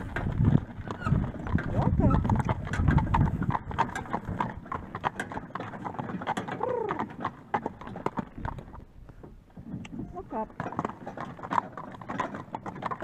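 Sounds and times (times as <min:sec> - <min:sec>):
horse hooves on asphalt: 0:00.0 - 0:13.0.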